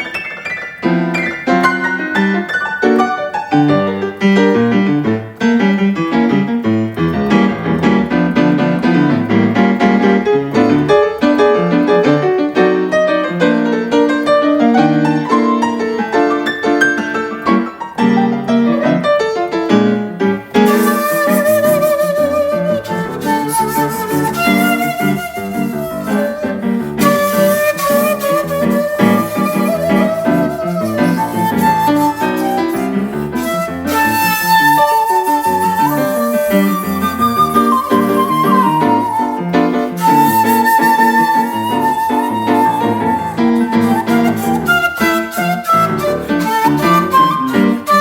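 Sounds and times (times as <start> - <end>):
piano playing: 0.0 - 48.0.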